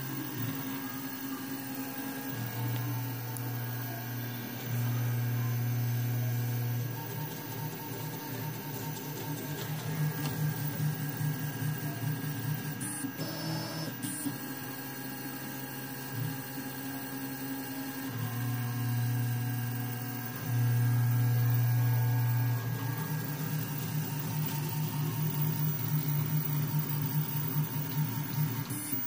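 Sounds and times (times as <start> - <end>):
stepper motors humming: 0.0 - 14.3, 18.1 - 29.0.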